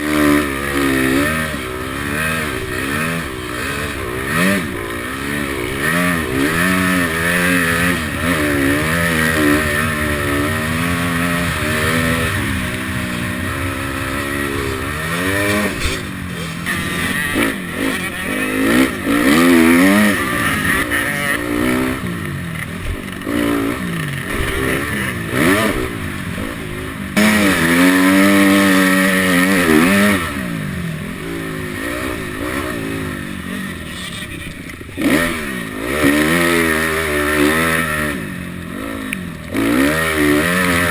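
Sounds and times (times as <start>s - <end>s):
motocross bike engines racing: 0.0s - 40.9s.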